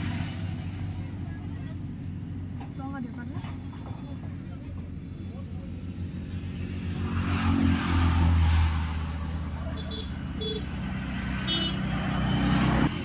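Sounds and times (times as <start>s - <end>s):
vehicle passing by: 0.0s - 3.5s, 5.4s - 13.0s.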